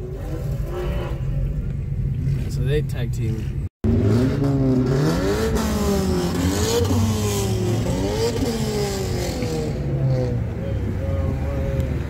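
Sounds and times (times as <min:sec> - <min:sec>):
sports car engines accelerating: 0:01.7 - 0:12.0.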